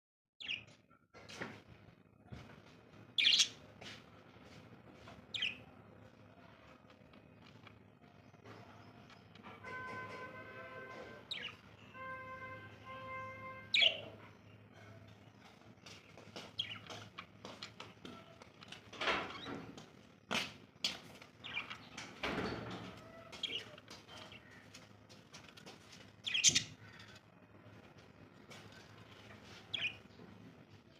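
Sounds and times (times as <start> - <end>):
birds chirping: 0.4 - 0.9, 3.0 - 3.8, 5.0 - 30.9.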